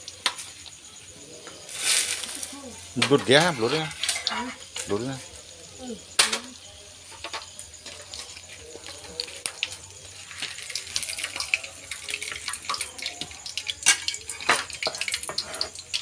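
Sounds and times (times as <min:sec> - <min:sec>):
hot oil sizzling and crackling: 0:00.0 - 0:16.0.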